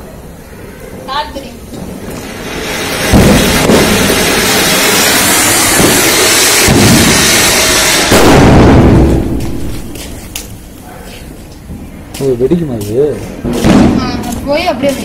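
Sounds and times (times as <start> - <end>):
firework fountain hissing: 0.0 - 15.0.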